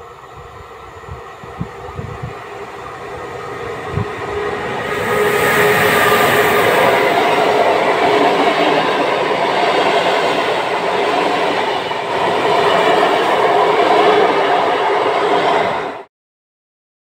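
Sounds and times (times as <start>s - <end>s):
humming tone from train: 0.0s - 16.1s
train wheels rumbling on rails: 0.0s - 16.1s.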